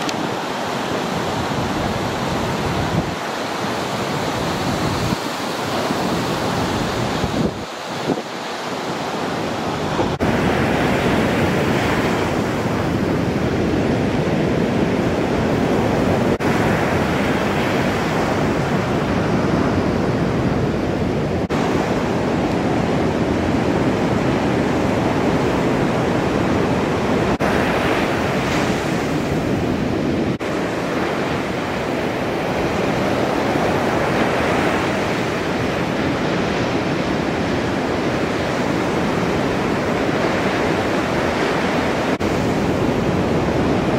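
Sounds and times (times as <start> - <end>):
waves breaking: 0.0 - 43.9
wind noise on microphone: 0.0 - 43.9.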